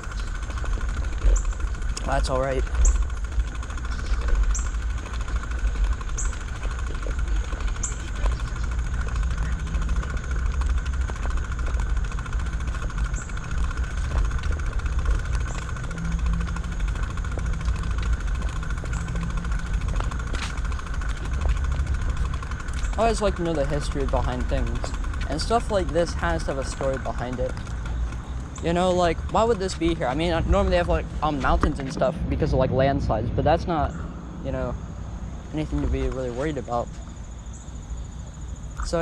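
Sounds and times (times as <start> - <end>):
bicycle rumbling on trail: 0.0 - 39.0
high drone: 0.0 - 39.0.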